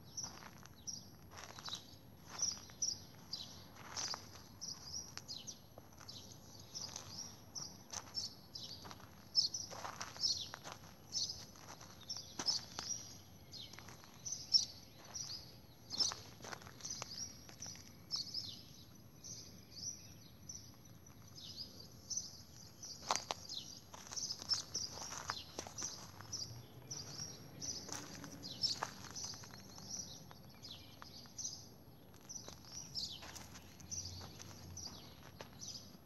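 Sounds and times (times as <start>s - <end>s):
flock of small birds chirping: 0.0s - 36.0s.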